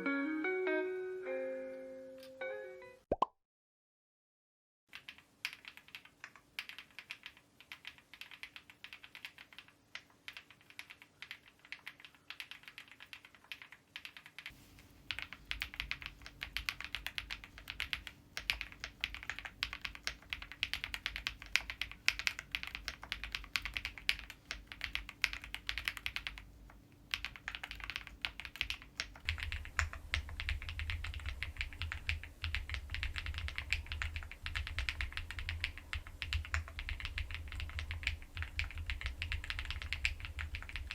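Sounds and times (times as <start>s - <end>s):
mechanical keyboard typing: 4.9s - 14.5s, 15.1s - 40.9s.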